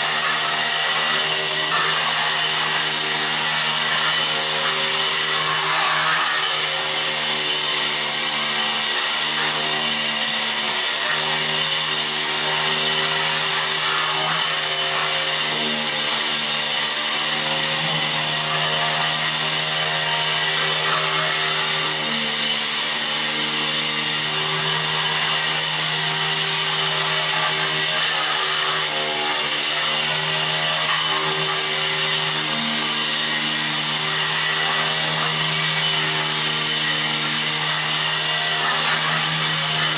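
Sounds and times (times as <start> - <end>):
blade scraping concrete floor: 0.0 - 39.9
floor scraper buzzing hum: 0.0 - 39.9.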